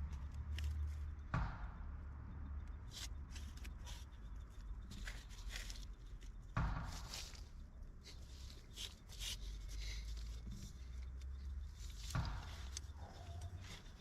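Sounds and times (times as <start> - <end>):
dull thuds: 1.1 - 2.0, 3.0 - 14.0.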